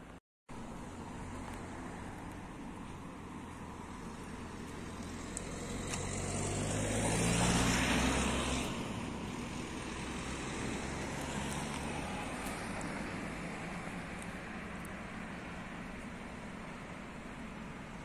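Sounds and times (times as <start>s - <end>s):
street traffic noise: 0.0s - 18.0s
car passing by: 0.7s - 16.4s.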